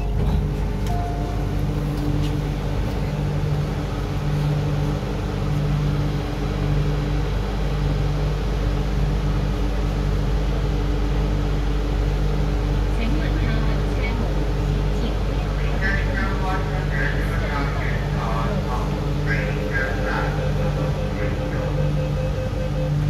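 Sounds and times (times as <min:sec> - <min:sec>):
low droning tone: 0:00.0 - 0:23.0
metro car ventilation hum: 0:00.0 - 0:23.0.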